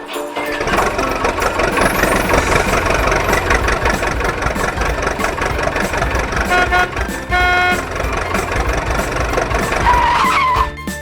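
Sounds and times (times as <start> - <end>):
horn toots: 0.0 - 11.0
vehicle engine running: 0.6 - 11.0.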